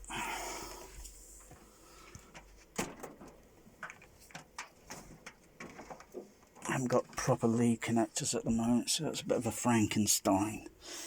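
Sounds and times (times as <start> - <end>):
faint mains hum: 0.0 - 11.0.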